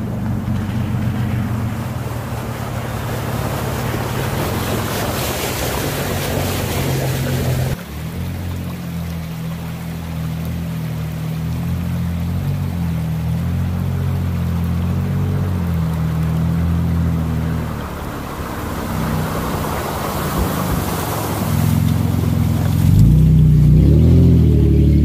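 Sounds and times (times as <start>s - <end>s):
creek water flowing: 0.0s - 25.0s
pickup truck engine: 0.0s - 25.0s
truck engine hum: 0.0s - 25.0s
tyres splashing through water: 0.0s - 25.0s.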